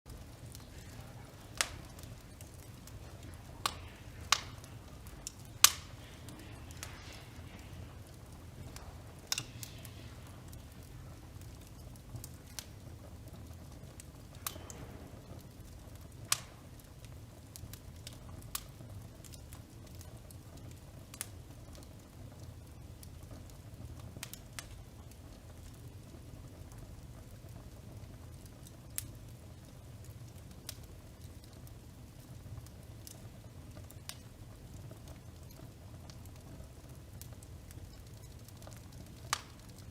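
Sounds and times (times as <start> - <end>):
sharp fire pops: 0.1 - 22.2, 23.0 - 39.9
low fire rumble: 0.1 - 39.9
wood fire crackling: 0.1 - 39.9.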